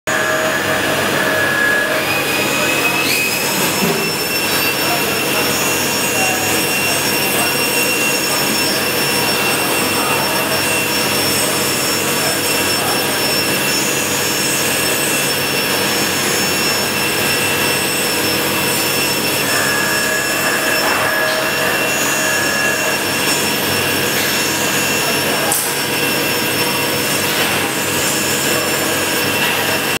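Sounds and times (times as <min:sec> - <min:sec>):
spindle whining tones: 0:00.1 - 0:30.0.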